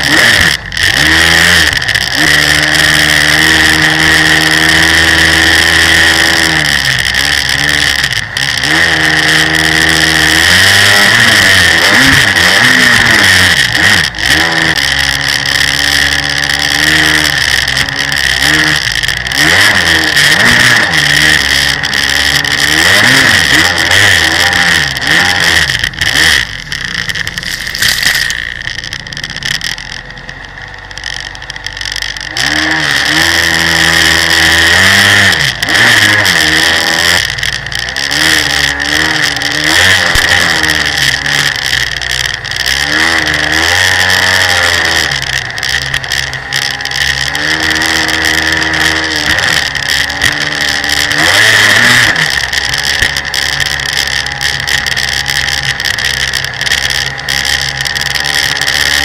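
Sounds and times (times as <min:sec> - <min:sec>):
jet ski engine revving: 0:00.0 - 0:59.0.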